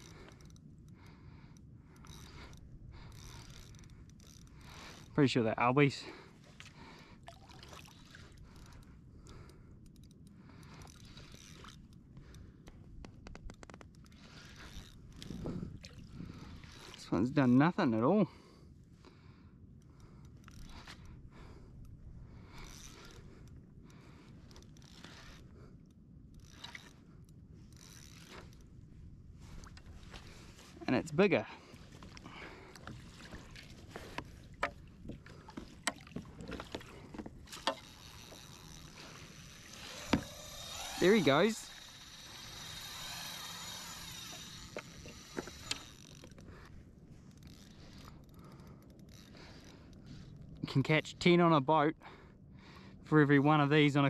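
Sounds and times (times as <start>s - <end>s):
fishing reel gears whirring: 0.0s - 18.6s, 19.5s - 51.1s
wind and water rumble: 0.0s - 54.0s.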